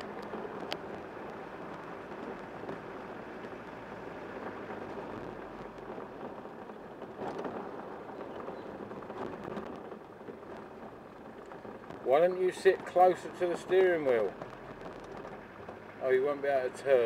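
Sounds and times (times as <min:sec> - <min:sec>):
engine and tyre noise in cabin: 0:00.0 - 0:17.0.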